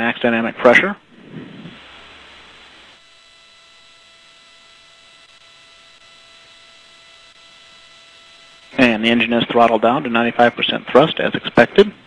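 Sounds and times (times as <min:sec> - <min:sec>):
faint hum of high tones: 0:00.0 - 0:12.0
steady broadcast hiss: 0:00.0 - 0:12.0.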